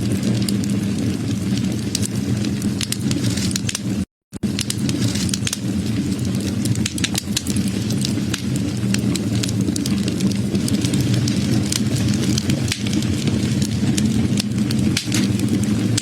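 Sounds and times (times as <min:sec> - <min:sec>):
burning wood crackling: 0:00.0 - 0:16.0
fire rumbling: 0:00.0 - 0:16.0.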